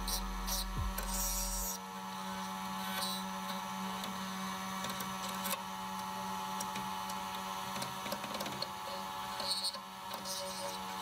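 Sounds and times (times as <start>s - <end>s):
key cutter motor whine: 0.0s - 11.0s.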